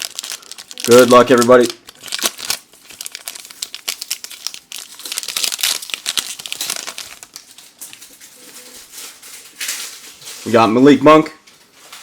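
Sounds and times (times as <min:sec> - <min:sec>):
wrapper crinkling and tearing: 0:00.0 - 0:11.0.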